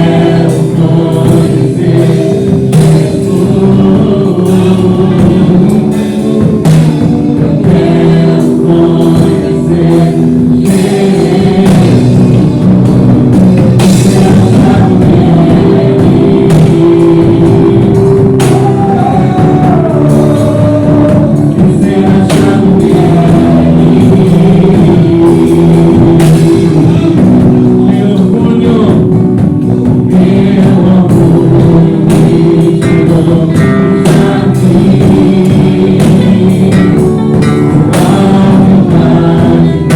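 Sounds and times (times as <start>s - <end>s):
drum kit: 0.0s - 39.9s
guitar: 0.0s - 39.9s
people singing: 0.0s - 39.9s
worship band playing: 0.0s - 39.9s.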